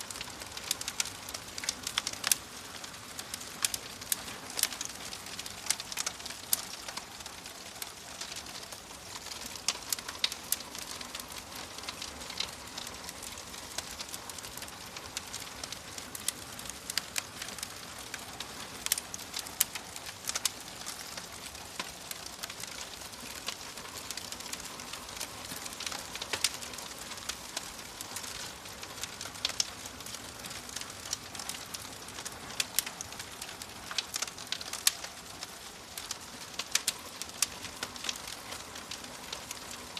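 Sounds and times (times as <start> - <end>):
wood fire crackling and popping: 0.0 - 39.9
fire hissing: 0.1 - 39.9.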